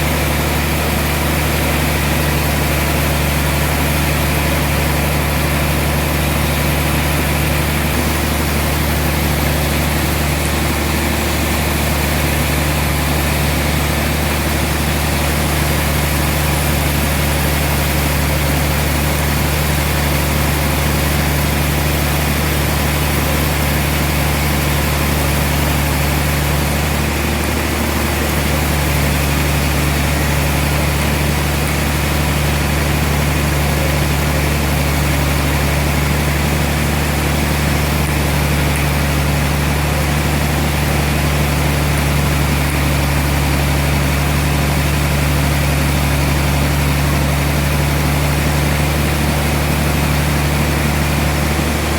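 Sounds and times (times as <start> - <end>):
sawmill machinery droning: 0.0 - 51.9.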